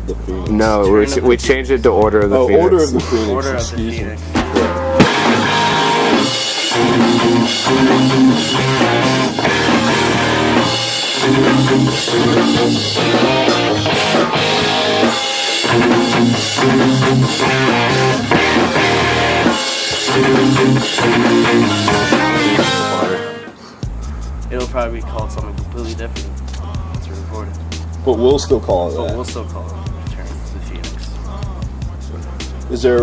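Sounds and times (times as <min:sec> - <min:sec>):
rock music with drums and guitar: 0:00.0 - 0:33.0.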